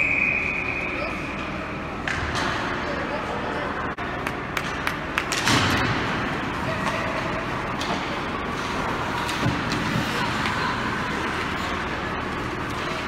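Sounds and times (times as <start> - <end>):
ice rink background din: 0.0 - 13.0.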